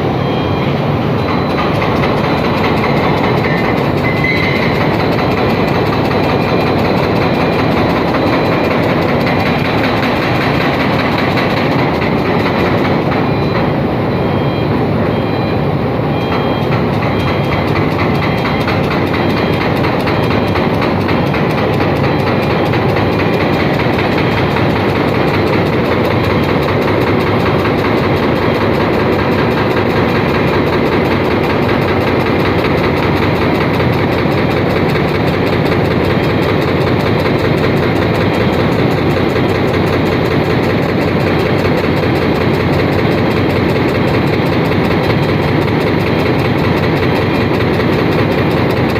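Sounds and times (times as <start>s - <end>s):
machinery running: 0.0s - 48.9s.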